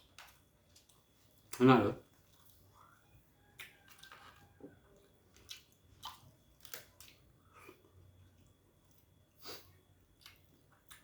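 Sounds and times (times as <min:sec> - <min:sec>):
chewing and lip-smacking: 0:00.0 - 0:09.2, 0:10.0 - 0:11.0.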